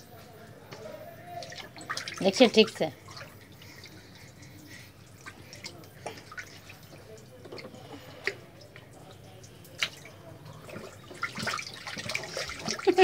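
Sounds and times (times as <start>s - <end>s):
water splashing in a tub: 0.7s - 13.0s.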